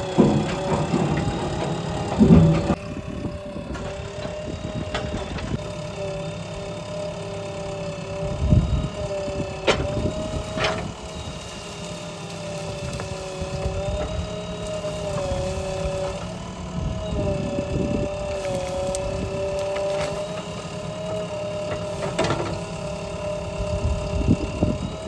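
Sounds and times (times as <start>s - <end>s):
diesel engine whining: 0.0s - 25.0s.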